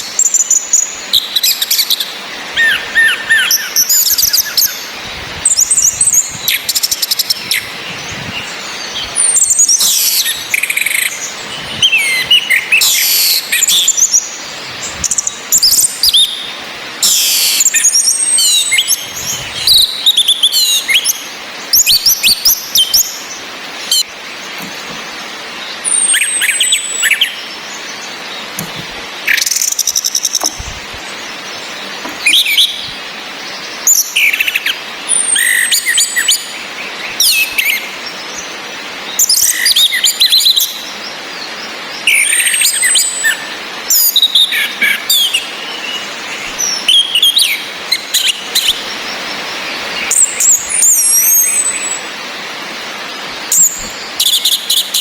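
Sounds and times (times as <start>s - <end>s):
thin high bird calls: 0.0s - 52.2s, 53.3s - 55.0s
rain hissing: 0.0s - 55.0s.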